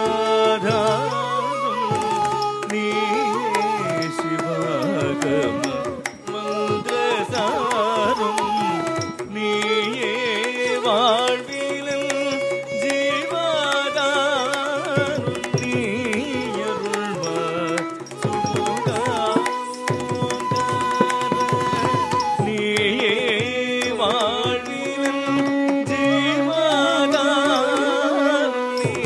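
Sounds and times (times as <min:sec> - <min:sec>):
ornamented sliding melody: 0:00.0 - 0:29.0.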